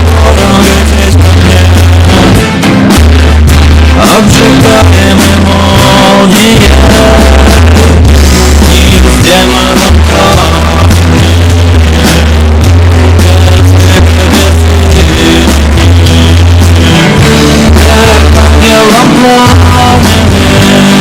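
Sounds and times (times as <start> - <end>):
deep sustained bass line: 0.0 - 21.0
loud rock music: 0.0 - 21.0.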